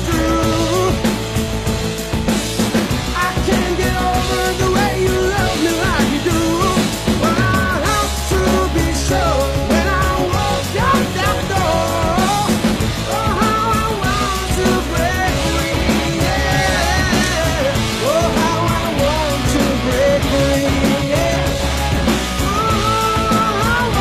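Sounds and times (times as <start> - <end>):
drums: 0.0 - 24.0
rock song with singing: 0.0 - 24.0
steady bass beat: 0.0 - 24.0.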